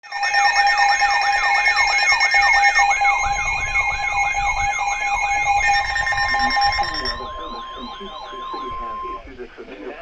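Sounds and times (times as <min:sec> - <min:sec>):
siren sweeping up and down: 0:00.0 - 0:09.4
fast high beeping: 0:00.0 - 0:09.6
steady alarm tones: 0:00.0 - 0:09.7.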